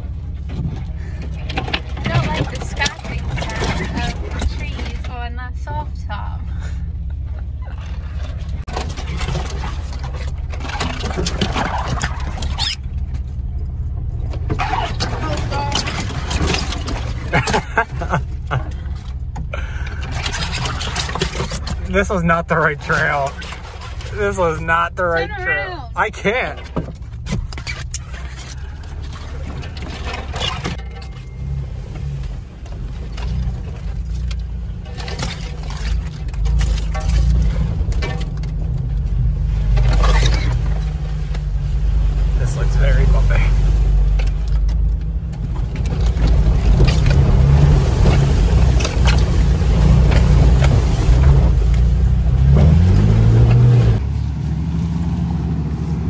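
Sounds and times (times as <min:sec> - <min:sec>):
car engine running low: 0:00.0 - 0:56.0
branches scraping car body: 0:07.6 - 0:13.4, 0:14.0 - 0:56.0.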